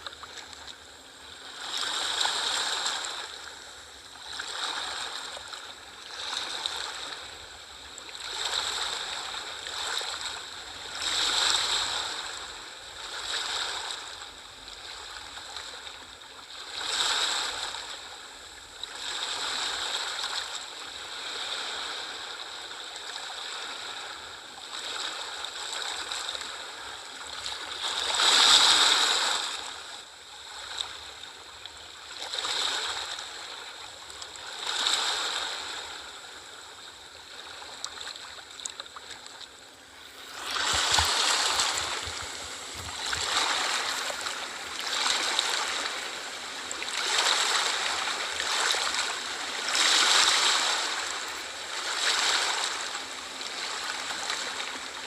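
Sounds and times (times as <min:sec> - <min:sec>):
small waves washing ashore: 0:00.0 - 0:55.0.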